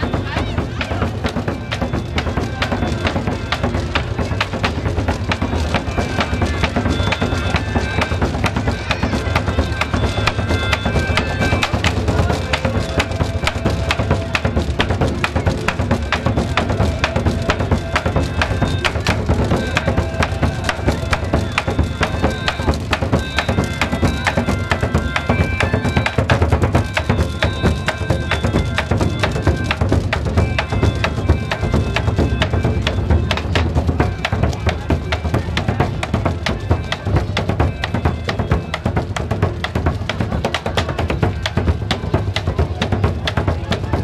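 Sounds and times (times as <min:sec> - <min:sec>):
barrel drums playing fast beat: 0:00.0 - 0:44.0
clacking wooden percussion: 0:00.0 - 0:44.0
folk band music: 0:00.0 - 0:44.0.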